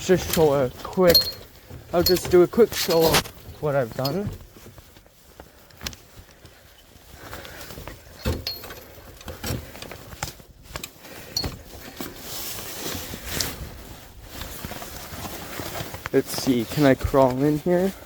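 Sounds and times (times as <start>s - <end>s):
clothing rubbing on camera: 0.0s - 8.2s, 9.6s - 18.0s
footsteps and bumps on wood: 0.0s - 18.0s.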